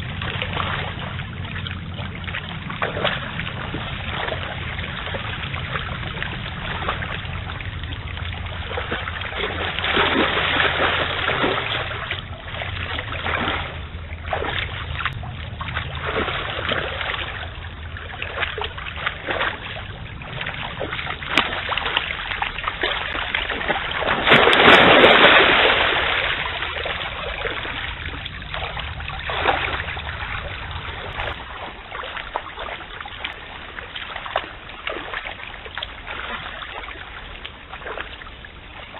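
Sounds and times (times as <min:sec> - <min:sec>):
legs splashing in water: 0:00.0 - 0:38.9
stream current running: 0:00.0 - 0:38.9.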